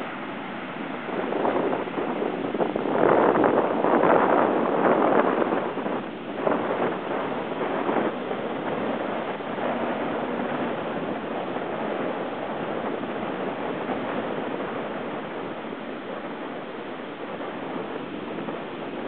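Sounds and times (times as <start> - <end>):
heavy surf breaking on beach: 0.0 - 19.0
wind blowing across microphone: 0.0 - 19.0.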